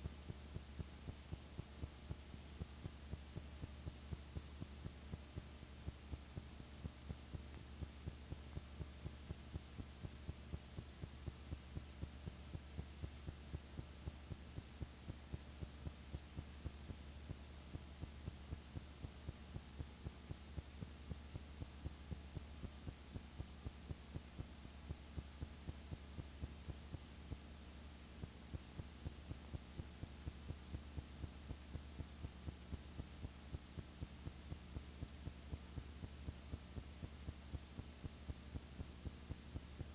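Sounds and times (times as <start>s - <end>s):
faint regular ticks: 0.0s - 39.9s
low electrical hum: 0.0s - 39.9s.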